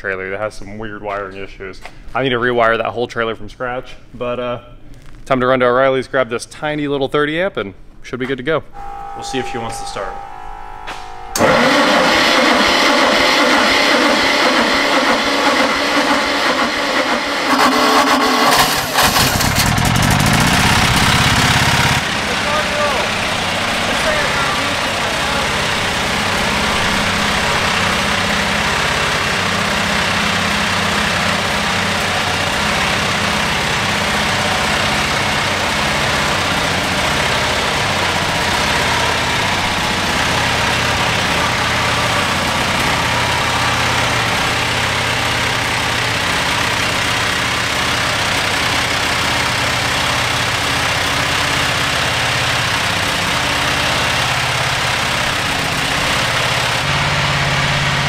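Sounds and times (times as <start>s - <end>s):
two-cylinder engine running: 11.4s - 58.0s.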